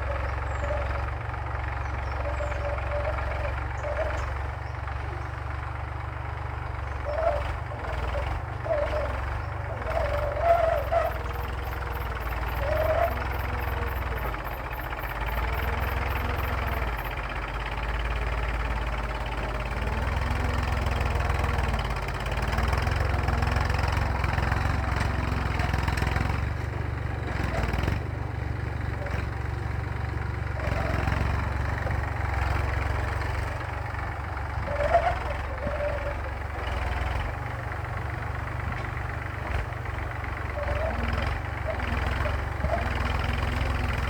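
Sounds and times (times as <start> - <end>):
tractor engine droning: 0.0 - 44.0.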